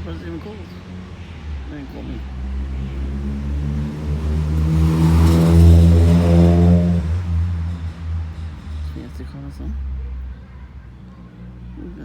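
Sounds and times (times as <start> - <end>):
car driving past: 0.0 - 11.8.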